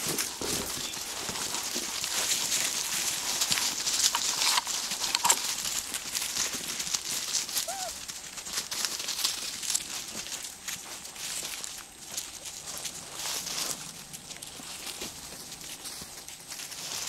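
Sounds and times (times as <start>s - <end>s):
dry leaves crunching and rustling: 0.0s - 17.0s.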